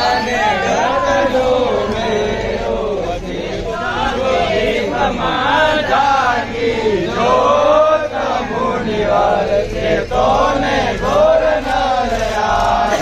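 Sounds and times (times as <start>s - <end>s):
crowd chanting in unison: 0.0s - 13.0s.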